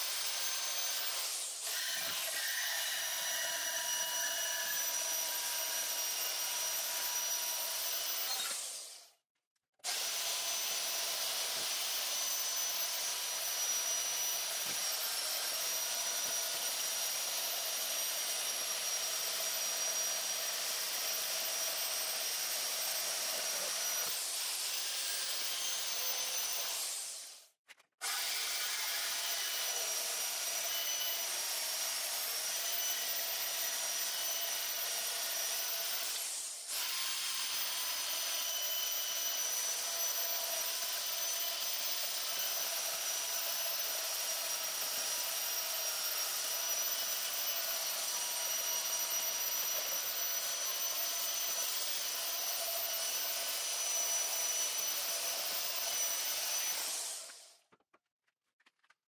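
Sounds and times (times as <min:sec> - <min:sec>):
band saw cutting metal: 0:00.0 - 0:09.1, 0:09.8 - 0:27.4, 0:28.0 - 0:57.6.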